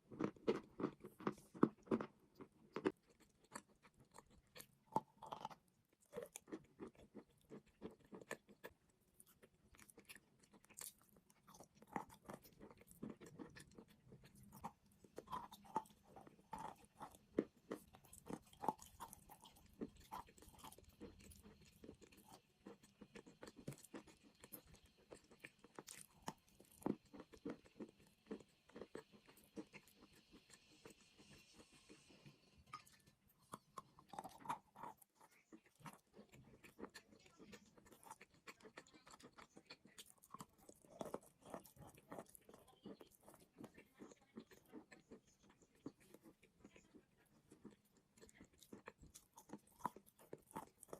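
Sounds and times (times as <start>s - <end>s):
person chewing crunchy chalk: 0.0s - 50.9s.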